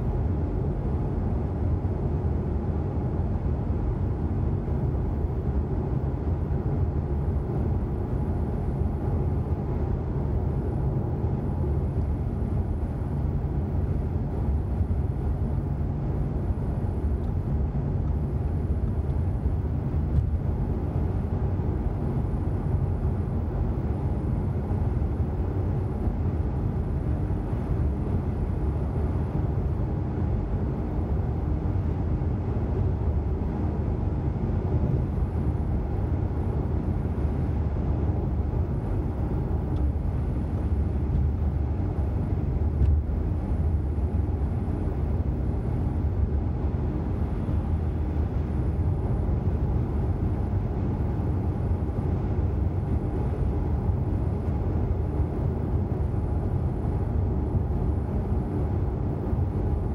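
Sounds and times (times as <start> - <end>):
car tyres and engine rumble: 0.0 - 59.9
faint steady hum: 0.0 - 59.9.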